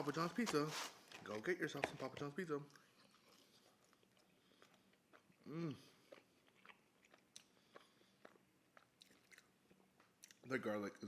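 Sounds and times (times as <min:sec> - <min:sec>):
close chewing with mouth clicks: 0:00.3 - 0:10.6.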